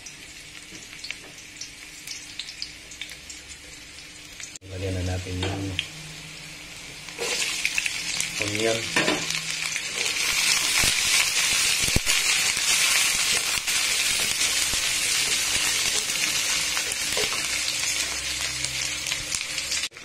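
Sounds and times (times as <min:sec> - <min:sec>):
onion and garlic sizzling in oil: 0:00.0 - 0:20.0.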